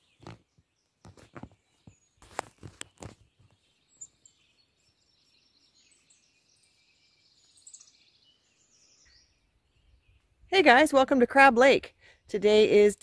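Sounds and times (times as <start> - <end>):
songbird chirps and trill: 0.0 - 13.0.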